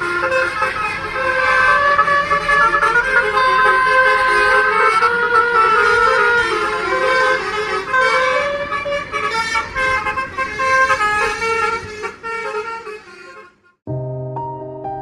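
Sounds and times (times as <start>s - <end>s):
musical air horn playing a tune: 0.0s - 13.8s.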